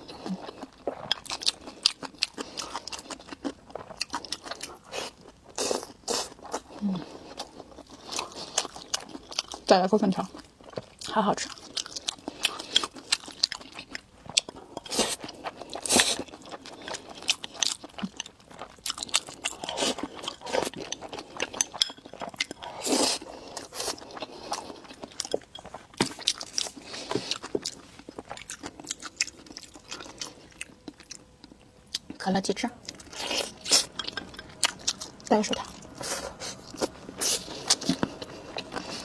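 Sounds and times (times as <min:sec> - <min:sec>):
chewing and crunching: 0:00.0 - 0:39.0.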